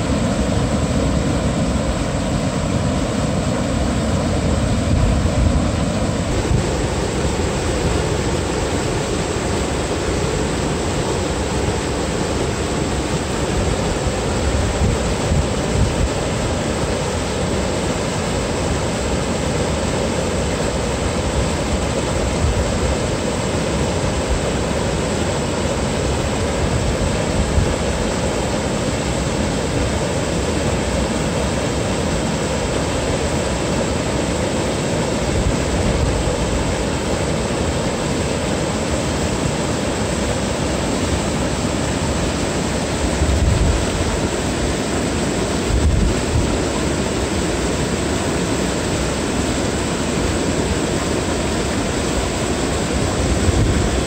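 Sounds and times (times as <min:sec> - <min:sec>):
water rushing over weir: 0:00.0 - 0:54.0.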